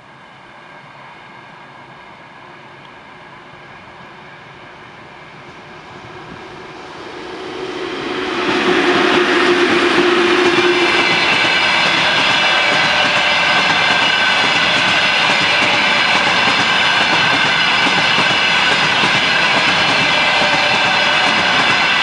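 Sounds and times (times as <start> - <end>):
high train whine: 0.0 - 22.0.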